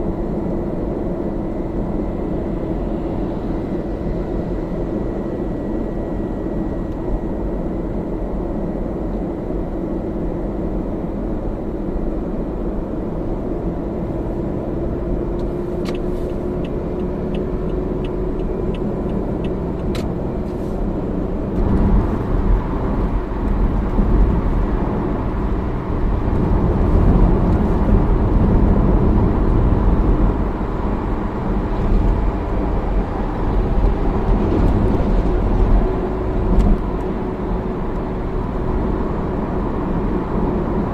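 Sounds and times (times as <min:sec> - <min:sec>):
road rumble: 0:00.0 - 0:40.9.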